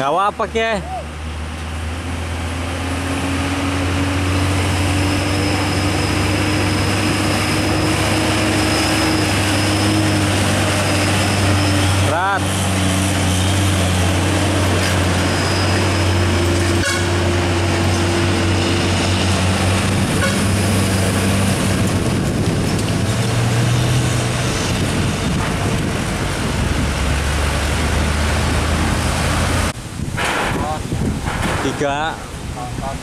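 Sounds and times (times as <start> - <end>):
truck diesel engines straining: 0.0 - 33.0.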